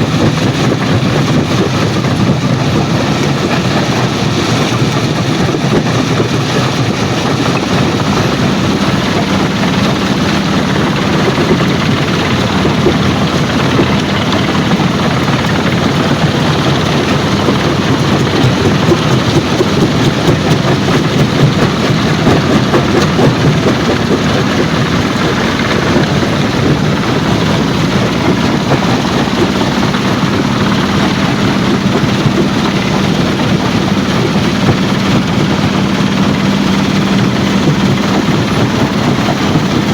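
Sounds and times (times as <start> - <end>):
heavy machinery engine hum: 0.0 - 39.9.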